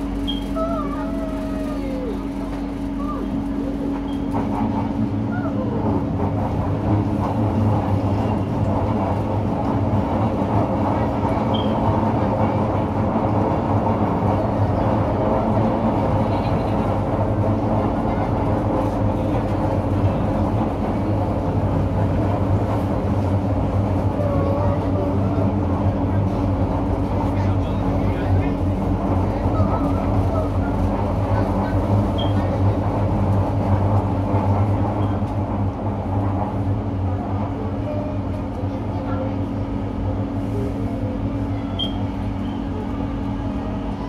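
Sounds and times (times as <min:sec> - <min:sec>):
train electric hum: 0:00.0 - 0:44.0
train wheels rumbling on rails: 0:00.0 - 0:44.0.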